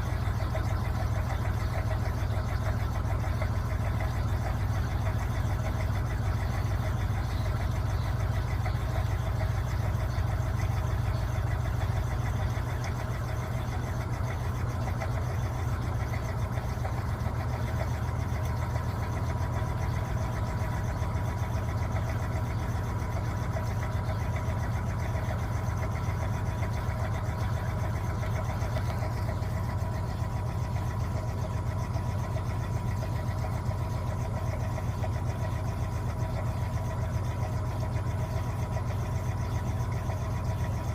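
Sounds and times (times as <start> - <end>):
washing machine running: 0.0 - 40.9.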